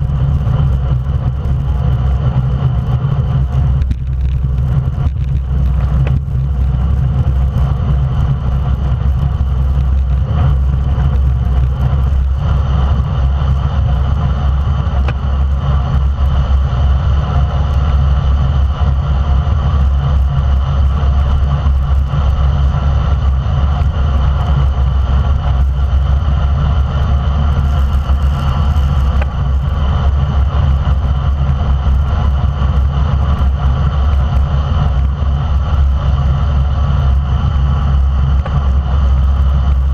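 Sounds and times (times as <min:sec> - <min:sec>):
bike tyres rolling on asphalt: 0:00.0 - 0:39.9
wind roar on microphone: 0:00.0 - 0:39.9.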